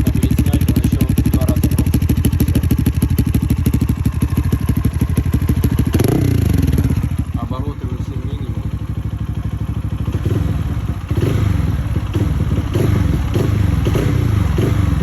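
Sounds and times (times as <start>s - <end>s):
loud motorcycle engine revving: 0.0s - 15.0s.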